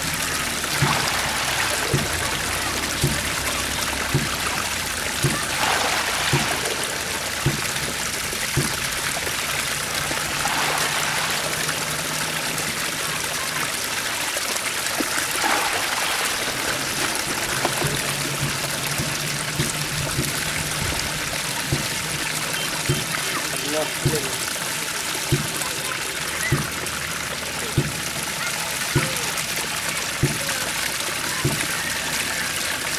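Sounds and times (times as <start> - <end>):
water pouring and splashing: 0.0 - 32.9.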